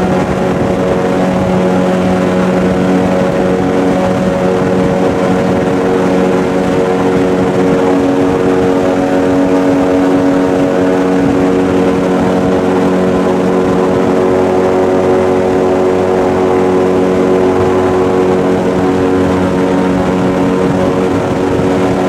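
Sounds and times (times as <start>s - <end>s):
airboat engine and propeller drone: 0.0s - 22.0s.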